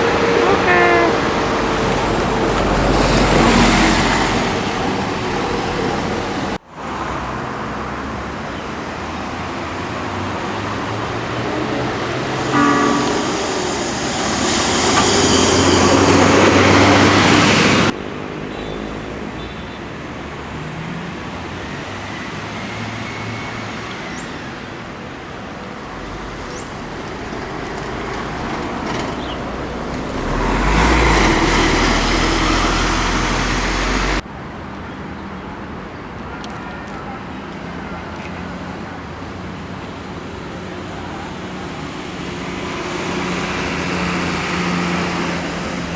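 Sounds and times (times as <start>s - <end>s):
buses passing close by: 0.0s - 45.9s
passing traffic: 0.0s - 45.9s.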